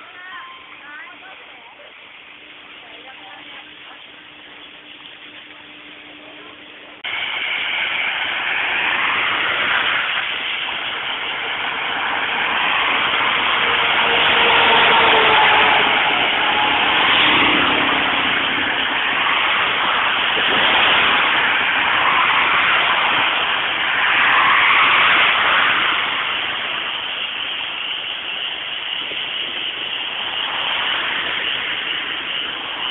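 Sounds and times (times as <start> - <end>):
faint engine-like tones: 0.0 - 32.9
road and wind noise: 0.0 - 32.9.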